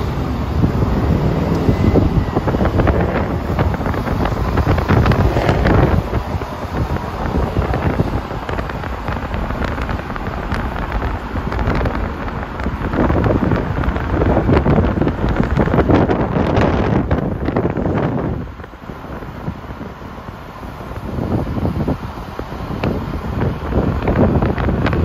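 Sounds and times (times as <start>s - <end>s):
road traffic: 0.0s - 25.0s
wind buffeting microphone: 0.0s - 25.0s.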